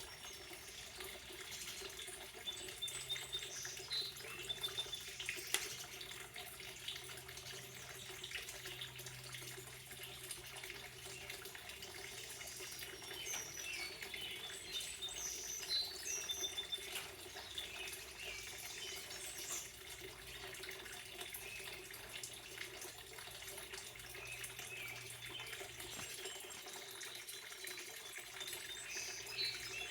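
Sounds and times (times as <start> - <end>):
birds chirping: 0.0 - 22.3, 23.2 - 29.9
running water: 0.0 - 29.9.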